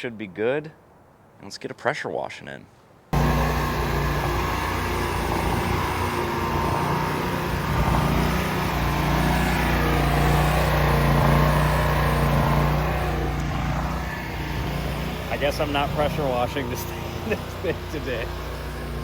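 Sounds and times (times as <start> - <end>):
engine running steadily: 3.2 - 19.0.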